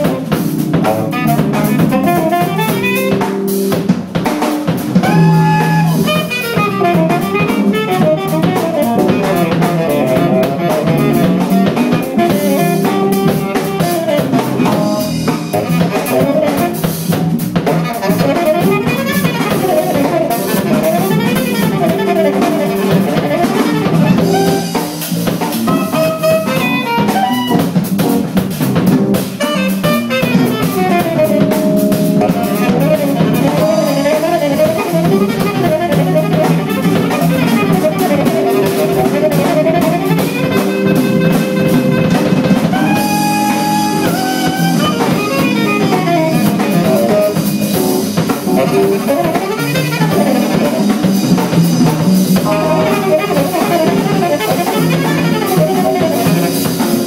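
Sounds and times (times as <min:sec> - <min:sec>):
drum kit with cymbals: 0:00.0 - 0:57.0
saxophone solo: 0:00.0 - 0:57.0
walking upright bass: 0:00.0 - 0:57.0.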